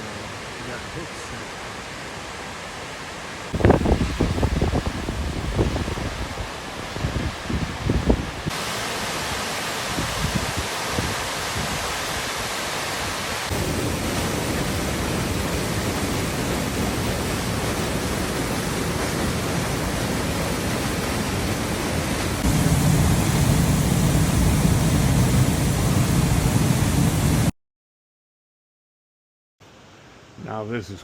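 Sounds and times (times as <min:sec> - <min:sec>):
creek water over cascades: 0:00.0 - 0:27.5.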